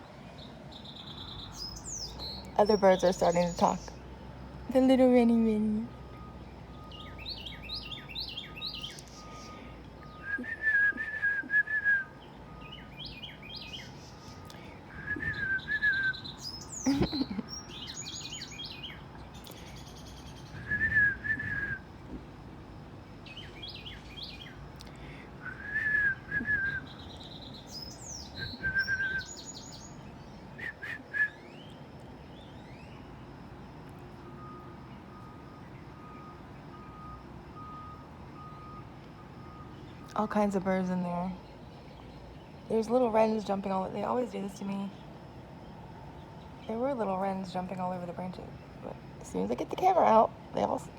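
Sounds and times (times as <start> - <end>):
songbirds singing and calling: 0.0 - 10.7, 11.6 - 50.9.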